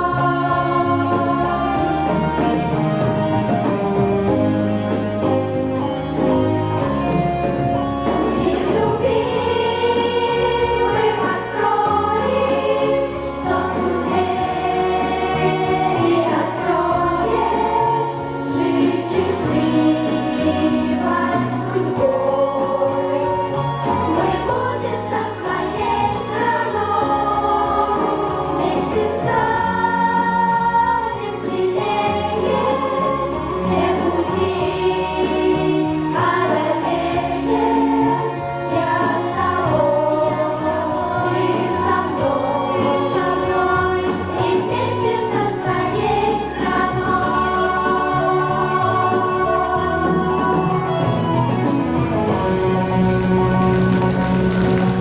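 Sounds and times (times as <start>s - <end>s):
instrumental backing: 0.0s - 55.0s
pop chorus singing: 0.0s - 55.0s.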